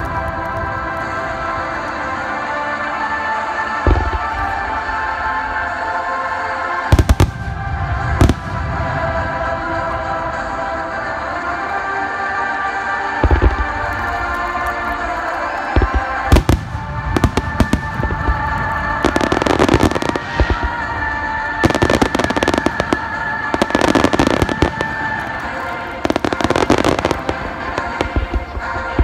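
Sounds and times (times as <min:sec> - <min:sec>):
fireworks bursting and crackling: 0:00.0 - 0:29.0.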